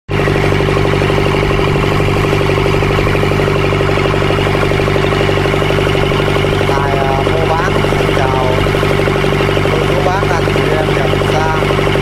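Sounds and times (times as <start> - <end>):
boat motor running steadily: 0.1 - 12.0.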